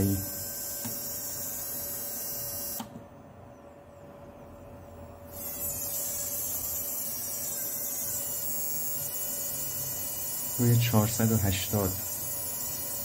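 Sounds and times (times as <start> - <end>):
fuel injector buzzing whine: 0.0 - 3.2, 5.2 - 13.0.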